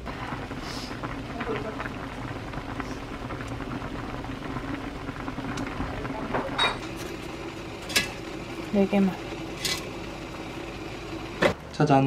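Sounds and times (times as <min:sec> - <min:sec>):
stew bubbling at a boil: 0:00.0 - 0:11.8.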